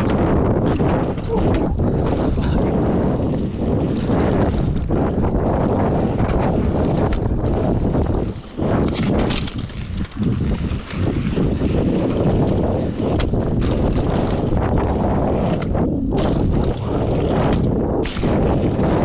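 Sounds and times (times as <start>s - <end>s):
bike clattering over bumps: 0.0s - 19.0s
tyres rumbling on dirt: 0.0s - 19.0s
wind buffeting microphone: 0.0s - 19.0s.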